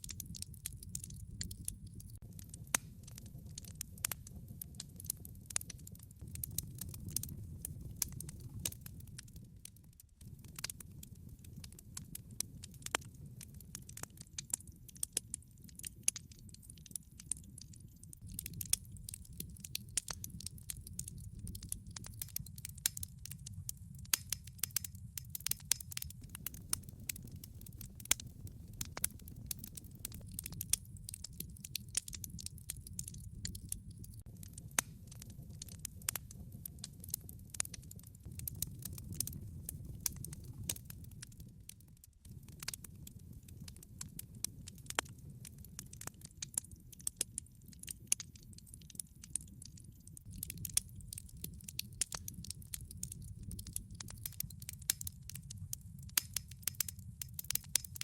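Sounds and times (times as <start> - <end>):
fire popping and snapping: 0.0 - 58.0
log fire crackling: 0.0 - 58.0
low rumble of burning: 0.0 - 58.0.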